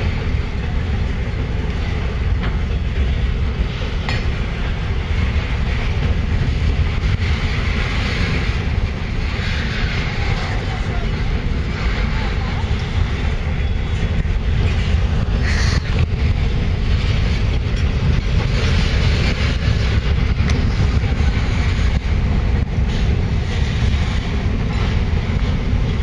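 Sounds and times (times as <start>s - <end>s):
freight train wheels rolling on rails: 0.0s - 26.0s.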